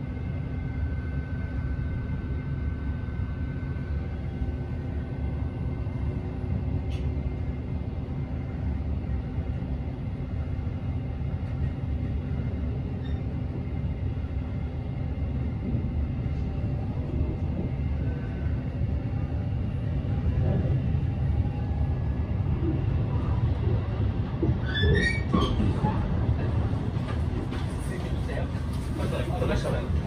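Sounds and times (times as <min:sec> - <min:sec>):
train rumble inside cabin: 0:00.0 - 0:30.0.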